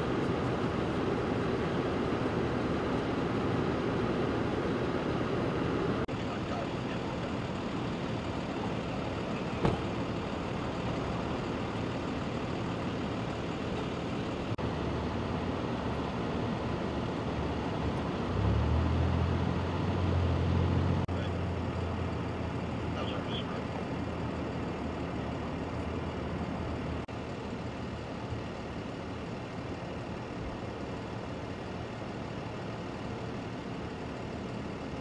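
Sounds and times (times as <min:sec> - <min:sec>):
deep engine drone: 0:00.0 - 0:35.0
truck engines idling: 0:00.0 - 0:35.0.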